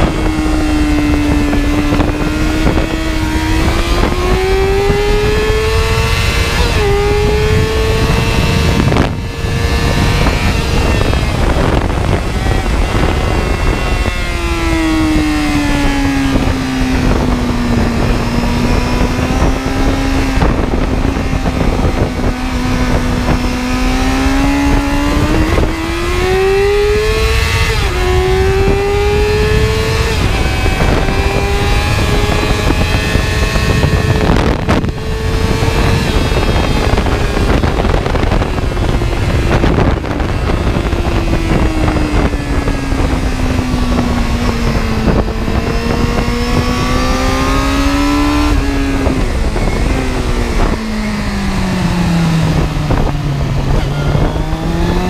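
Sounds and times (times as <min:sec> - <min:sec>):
vehicle engine accelerating: 0:00.0 - 0:55.0
wind and road noise: 0:00.0 - 0:55.0.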